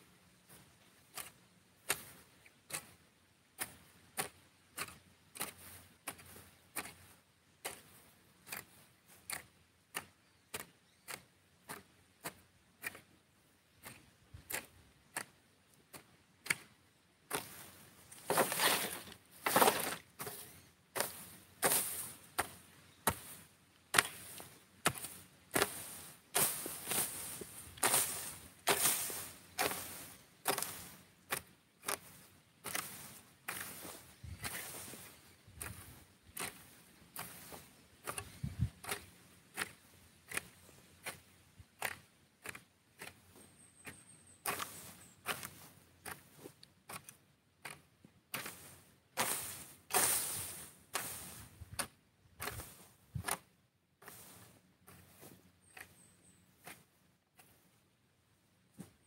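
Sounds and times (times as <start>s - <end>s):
hoe striking dry soil: 0.5s - 3.0s, 3.6s - 59.0s.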